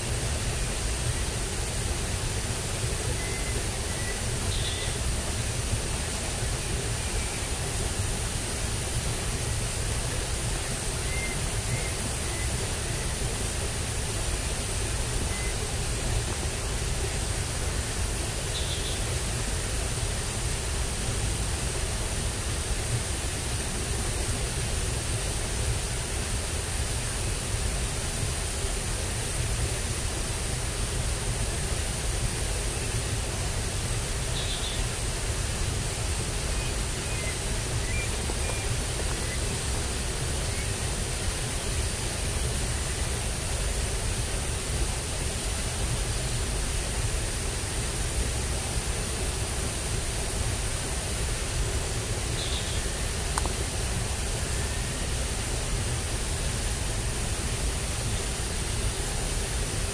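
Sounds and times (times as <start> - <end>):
steady rushing outdoor noise: 0.0 - 59.9.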